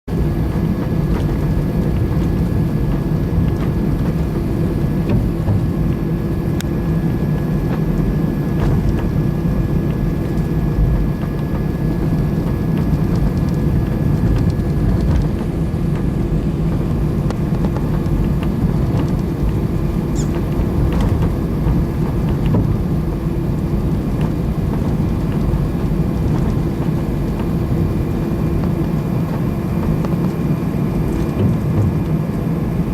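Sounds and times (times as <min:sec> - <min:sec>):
aircraft cabin engine hum: 0:00.1 - 0:32.9.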